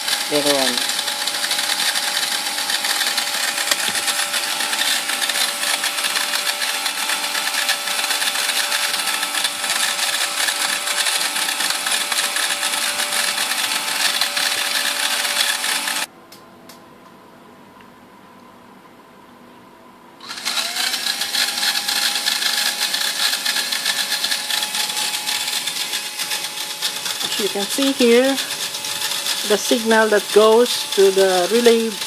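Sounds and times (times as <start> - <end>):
robot vacuum motor whirring: 0.0 - 16.1, 20.2 - 32.0.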